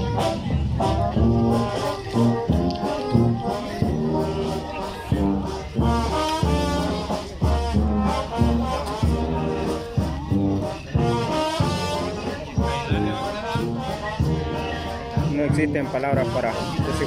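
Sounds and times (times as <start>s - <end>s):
brass band music: 0.0s - 17.0s.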